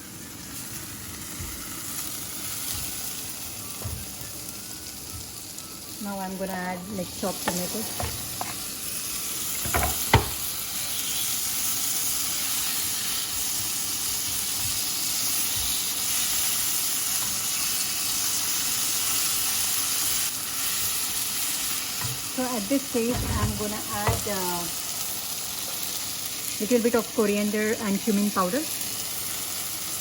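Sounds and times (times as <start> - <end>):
onions sizzling in hot oil: 0.0 - 30.0.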